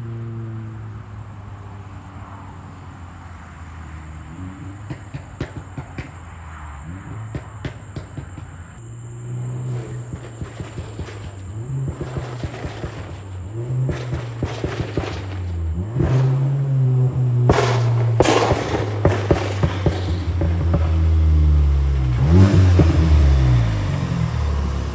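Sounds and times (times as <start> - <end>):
car exhaust revving: 2.8 - 24.9
exhaust crackles and pops: 4.2 - 24.9.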